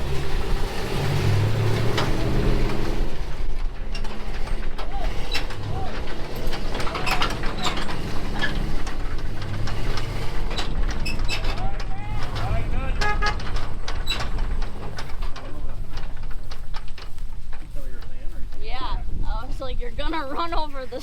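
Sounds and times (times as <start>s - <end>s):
vehicle engine revving: 0.0s - 17.5s
clicks and knocks: 1.0s - 18.6s.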